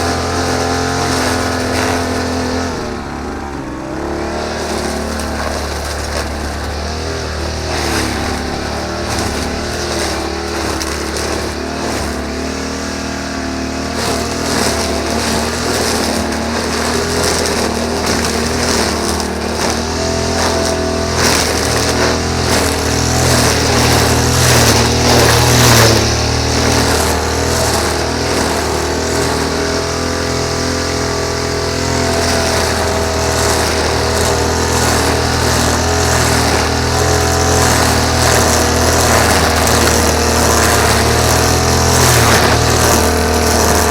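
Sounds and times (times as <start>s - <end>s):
grass cutter engine running: 0.0s - 43.9s.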